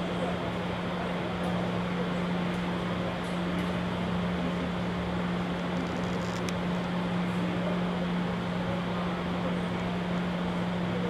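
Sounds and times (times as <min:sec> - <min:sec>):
fan whir: 0:00.0 - 0:11.0.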